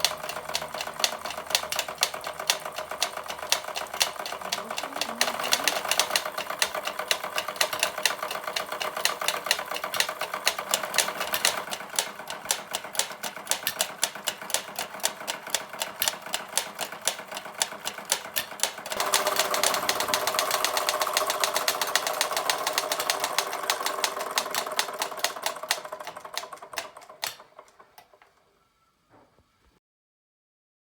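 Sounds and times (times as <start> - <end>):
model steam engine clicking: 0.0 - 28.3.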